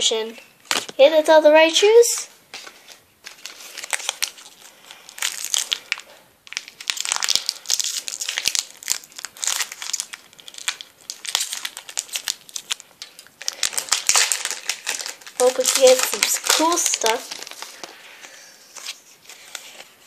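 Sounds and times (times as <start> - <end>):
foil wrapper crinkling: 2.5 - 20.0.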